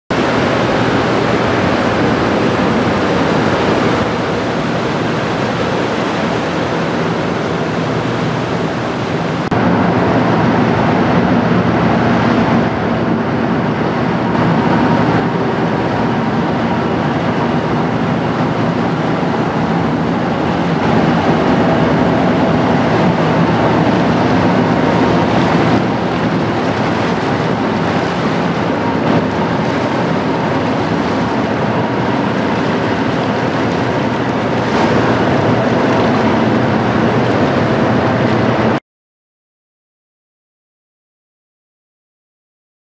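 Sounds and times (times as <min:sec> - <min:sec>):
diesel engine humming: 0:00.1 - 0:38.8
water rushing past hull: 0:00.1 - 0:38.8
wind on microphone: 0:00.1 - 0:38.8.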